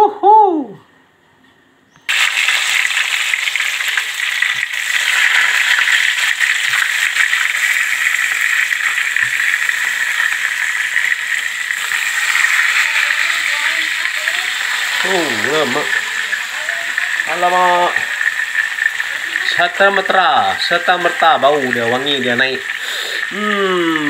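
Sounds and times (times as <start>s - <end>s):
fish deep-frying in hot oil: 2.1s - 24.0s.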